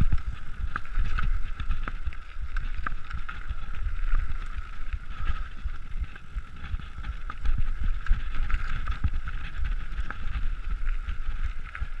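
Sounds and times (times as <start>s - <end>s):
bike knocking and rattling: 0.0s - 12.0s
bike tyres rumbling on gravel: 0.0s - 12.0s
wind on microphone: 0.0s - 12.0s.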